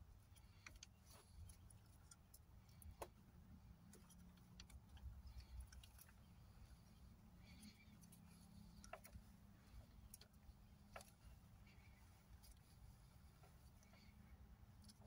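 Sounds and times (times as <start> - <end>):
faint clicks of wires handled: 0.1 - 15.0.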